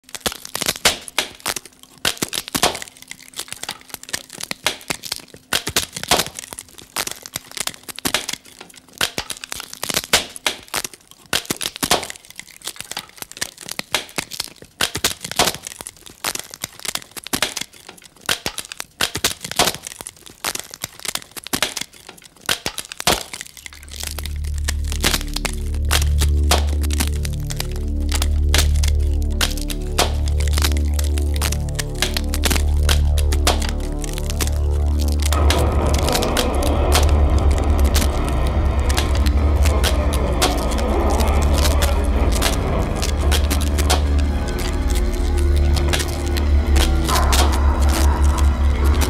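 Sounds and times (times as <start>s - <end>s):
dense crackling and snapping: 0.0s - 49.0s.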